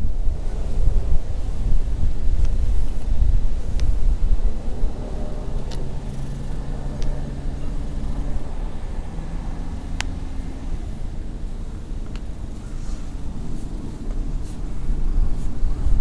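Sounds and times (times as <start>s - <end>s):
low motor hum: 0.0s - 16.0s
wind on microphone: 0.0s - 16.0s.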